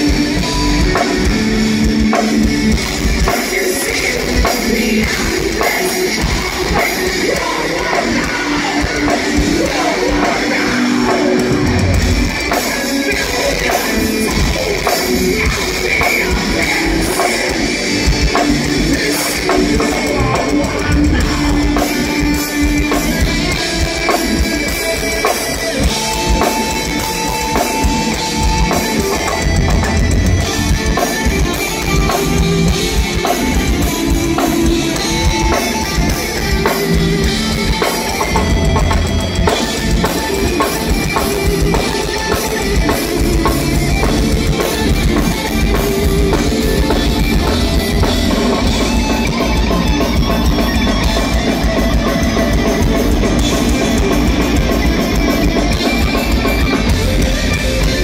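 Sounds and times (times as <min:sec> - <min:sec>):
distorted electric guitars: 0:00.0 - 0:58.0
fast drum kit: 0:00.0 - 0:58.0.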